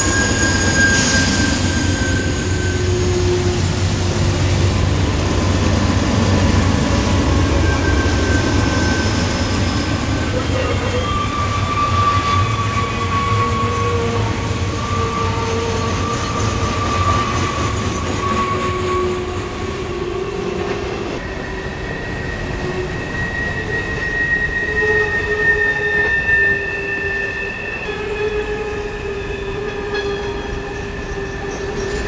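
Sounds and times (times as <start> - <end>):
high wheel squeal: 0.0 - 4.4, 5.7 - 20.5, 21.2 - 32.0
freight train wheels rumbling on rail: 0.0 - 32.0.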